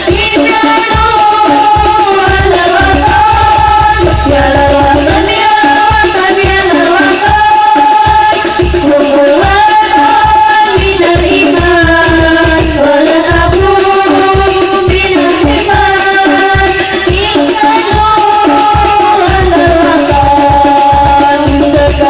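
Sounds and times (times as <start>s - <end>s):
frame drums beating: 0.0s - 22.0s.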